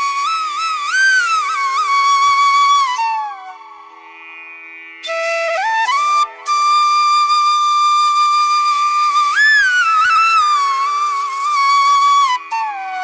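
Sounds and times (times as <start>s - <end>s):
solo flute long notes: 0.0s - 4.3s, 5.0s - 13.0s.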